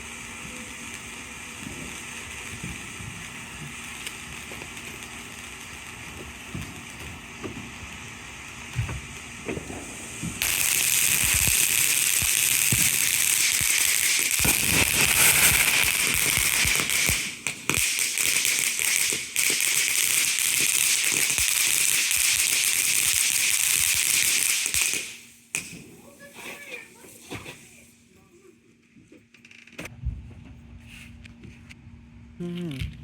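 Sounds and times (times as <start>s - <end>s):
firework hissing crackle: 0.0s - 28.1s.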